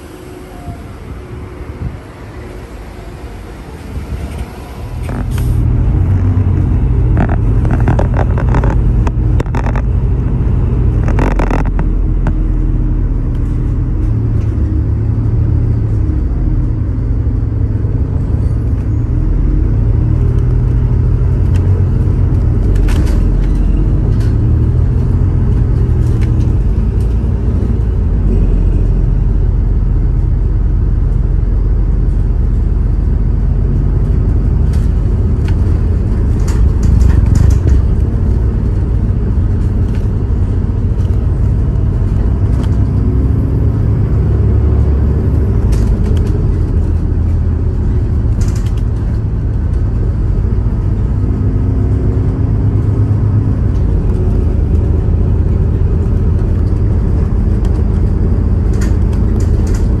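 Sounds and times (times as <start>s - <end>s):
electric train rumbling: 0.0s - 60.0s.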